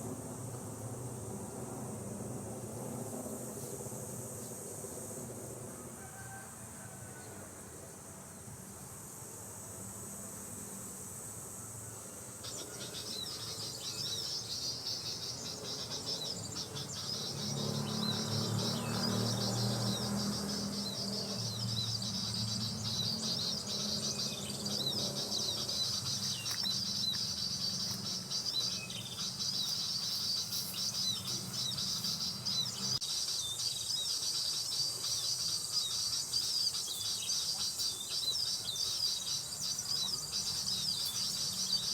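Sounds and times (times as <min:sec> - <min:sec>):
insect buzz: 0:00.0 - 0:41.9.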